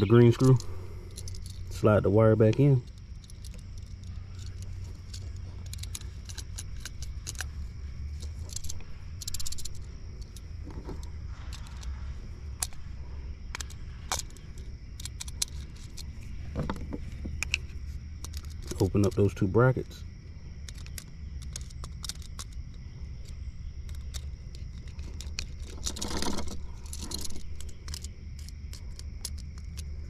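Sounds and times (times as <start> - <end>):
small clicks and rattles: 0.0 - 30.0
steady low hum: 0.0 - 30.0.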